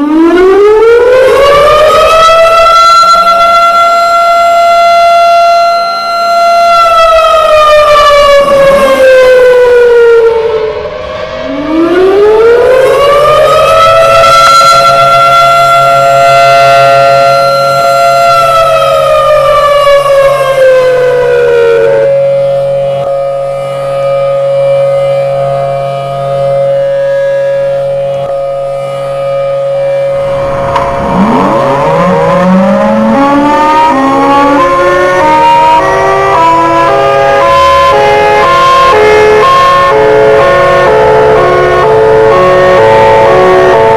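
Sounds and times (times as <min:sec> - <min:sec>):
siren wailing: 0:00.0 - 0:43.9
steady siren tone: 0:00.0 - 0:43.9.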